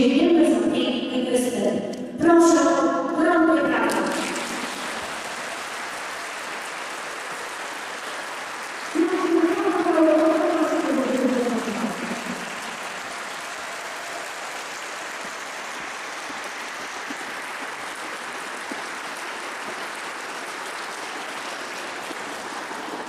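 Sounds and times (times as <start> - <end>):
audience applauding: 3.9 - 23.0.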